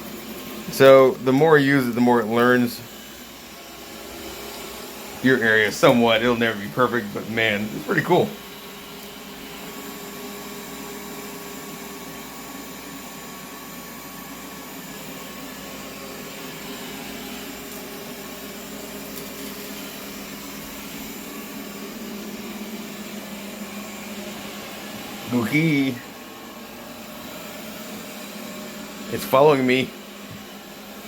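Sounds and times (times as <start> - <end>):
robot vacuum motor hum: 0.0 - 31.0.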